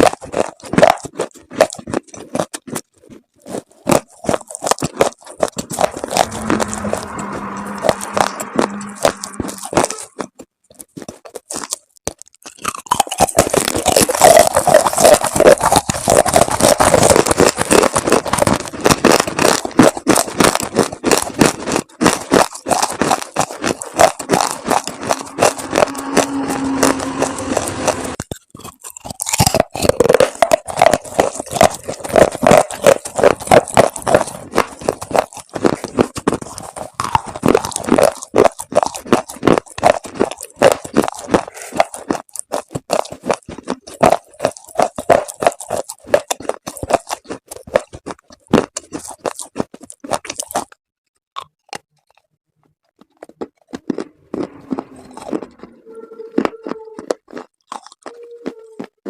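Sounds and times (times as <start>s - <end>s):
chalk paste crunching: 0.0s - 50.8s.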